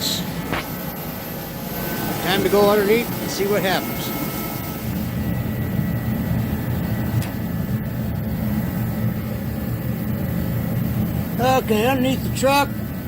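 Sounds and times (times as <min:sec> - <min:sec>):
heater running: 0:00.0 - 0:13.0.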